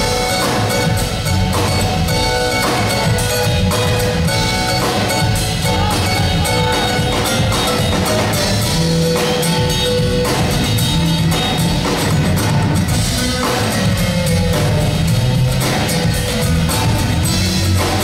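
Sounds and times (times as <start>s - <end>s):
acoustic guitar: 0.0s - 18.0s
bass guitar: 0.0s - 18.0s
drum kit strokes: 0.0s - 18.0s.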